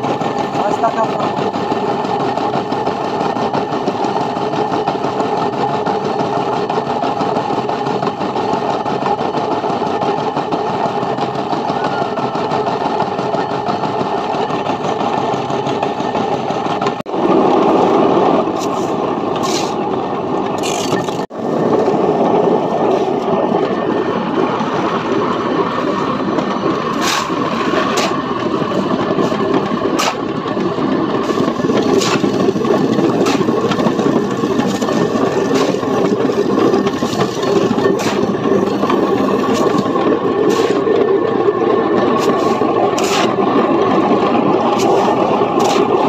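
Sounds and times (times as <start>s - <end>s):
pipe-spinning machine running: 0.0s - 46.0s.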